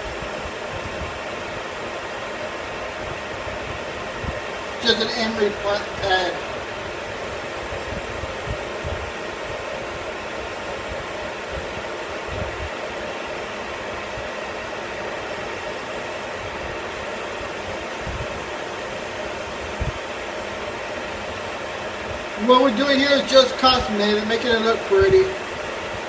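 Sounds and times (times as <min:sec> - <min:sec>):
faint steady hum: 0:00.0 - 0:26.0
metal lathe whirring: 0:00.0 - 0:26.0.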